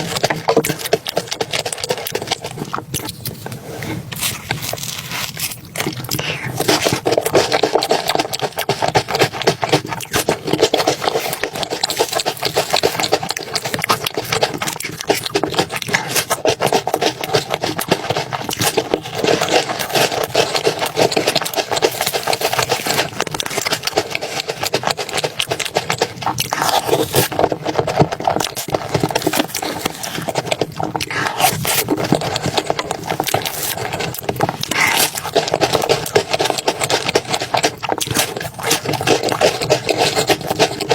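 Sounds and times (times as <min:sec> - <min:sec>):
chewing and mouth sounds: 0:00.0 - 0:40.9.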